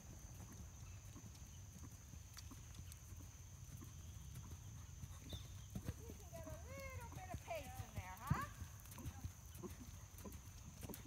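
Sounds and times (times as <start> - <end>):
horse hoofbeats on sand: 0.0 - 11.0.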